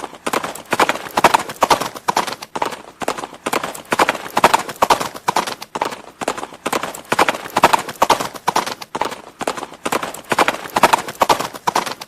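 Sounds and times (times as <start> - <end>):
horse hooves clicking on ground: 0.0 - 12.0.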